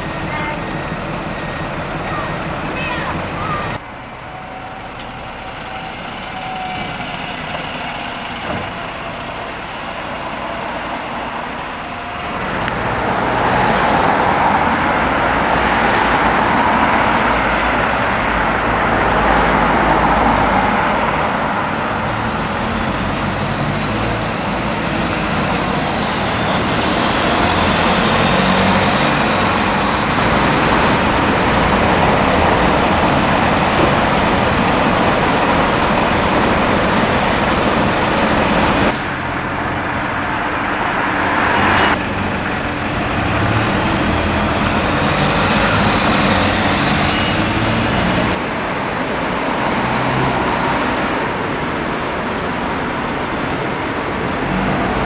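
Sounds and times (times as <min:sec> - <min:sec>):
bus engine: 0:00.0 - 0:55.0
road traffic: 0:00.0 - 0:55.0
tyres on wet road: 0:00.0 - 0:55.0.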